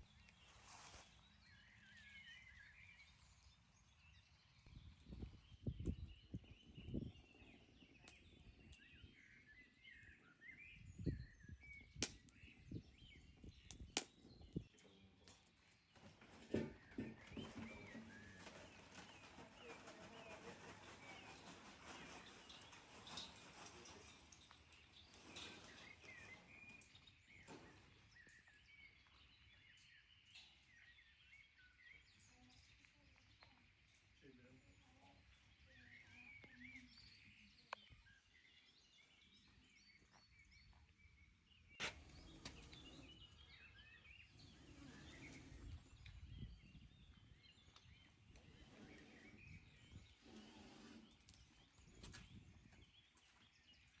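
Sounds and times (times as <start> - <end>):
birds chirping: 0.1 - 33.6, 35.2 - 54.0.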